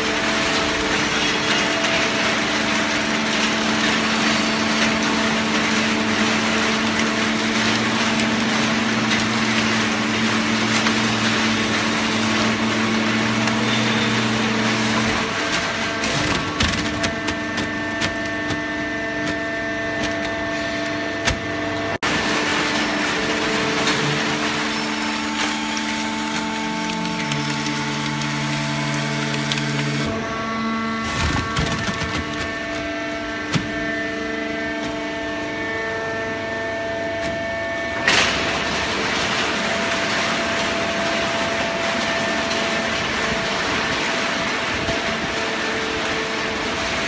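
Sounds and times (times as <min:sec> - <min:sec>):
baler machine hum: 0:00.0 - 0:47.0.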